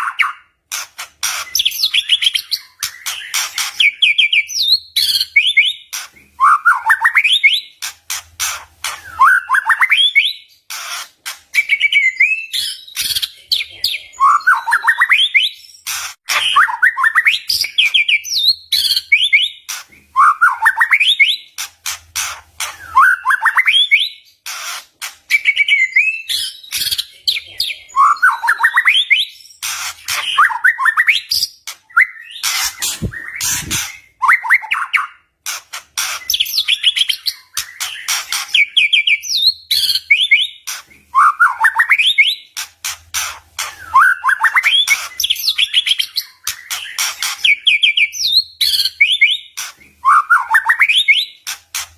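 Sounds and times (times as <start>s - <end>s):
bird singing whistled song: 1.5s - 7.8s, 8.9s - 10.6s, 11.5s - 21.5s, 22.6s - 24.3s, 25.3s - 35.3s, 36.2s - 42.5s, 43.6s - 51.4s.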